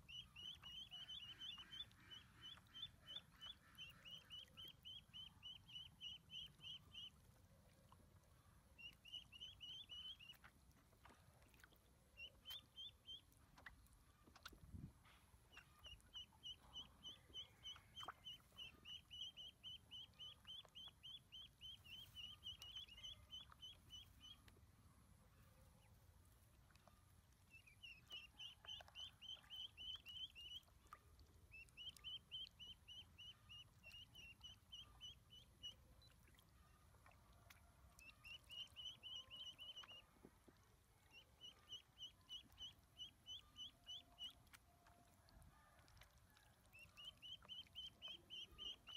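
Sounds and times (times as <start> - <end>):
ducklings peeping: 0.0 - 8.0, 8.7 - 14.6, 15.3 - 24.6, 26.7 - 44.7, 46.7 - 48.9.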